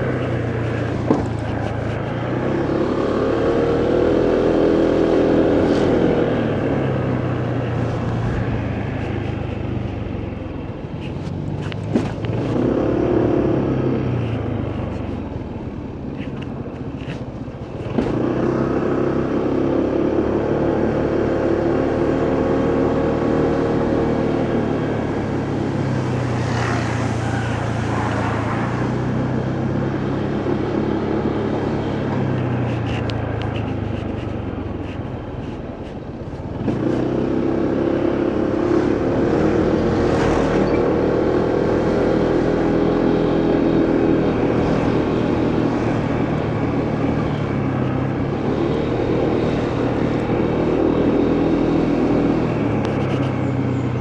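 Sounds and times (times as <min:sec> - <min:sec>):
motorcycle engine running: 0:00.0 - 0:54.0
road noise: 0:00.0 - 0:54.0
wind: 0:00.0 - 0:54.0.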